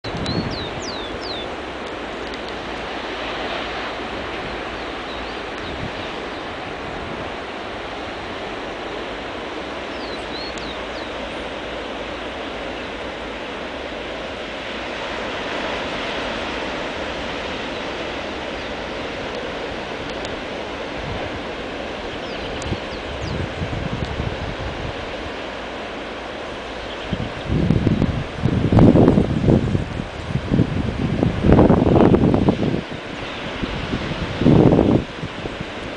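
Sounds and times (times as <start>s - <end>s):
ocean surf breaking on beach: 0.0s - 35.9s.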